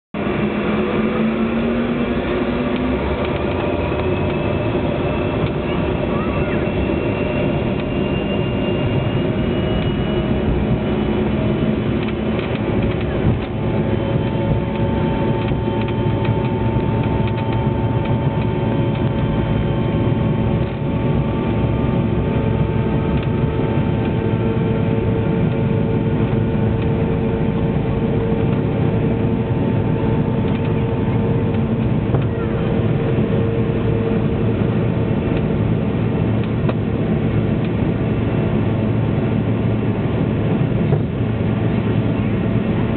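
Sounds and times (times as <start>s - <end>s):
jet engines rumbling in cabin: 0.2s - 42.9s
whining engine tones: 0.2s - 42.9s.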